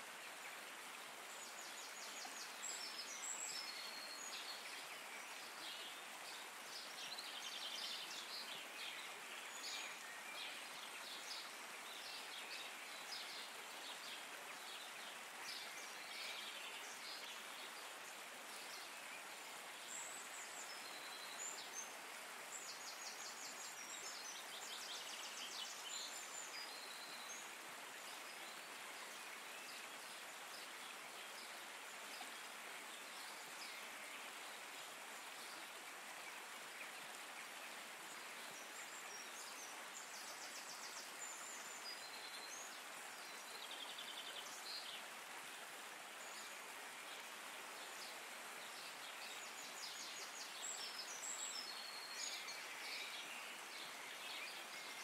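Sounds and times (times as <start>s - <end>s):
steady watery hiss: 0.0s - 55.0s.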